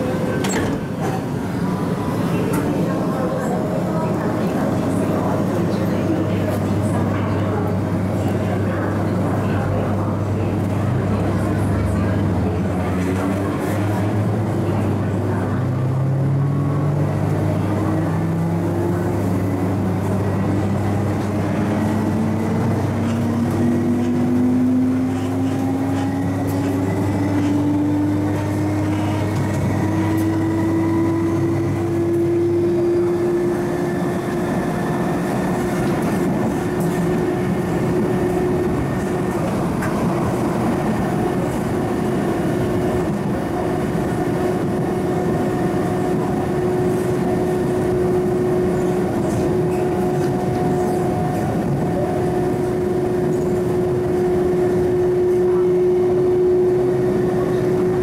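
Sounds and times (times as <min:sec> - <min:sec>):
train running on rails: 0:00.0 - 0:58.0.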